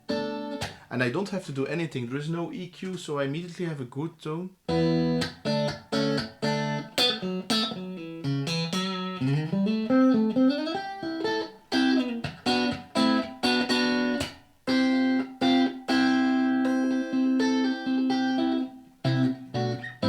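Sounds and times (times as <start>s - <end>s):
electric guitar chords and notes: 0.0s - 0.9s, 4.7s - 20.0s.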